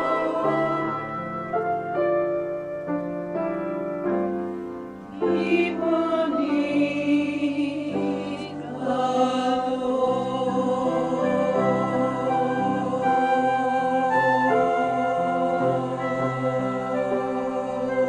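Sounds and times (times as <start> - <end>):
choir singing sustained notes: 0.0 - 3.4, 4.0 - 18.0
slow piano notes: 0.0 - 18.0.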